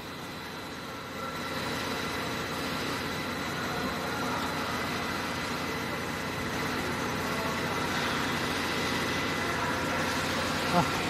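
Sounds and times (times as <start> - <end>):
faint steady tones: 0.0 - 11.0
industrial machinery hum: 0.0 - 11.0.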